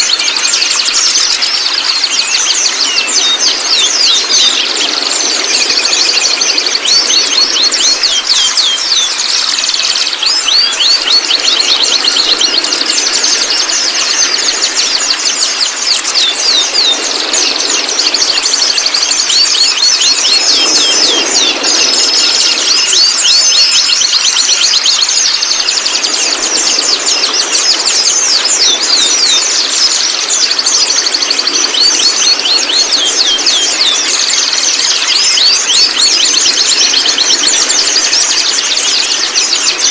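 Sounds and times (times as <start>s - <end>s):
young birds chirping: 0.0s - 39.9s.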